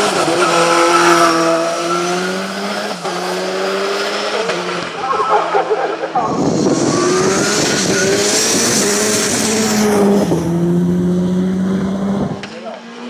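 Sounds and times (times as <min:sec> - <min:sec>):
rally car accelerating: 0:00.0 - 0:13.0.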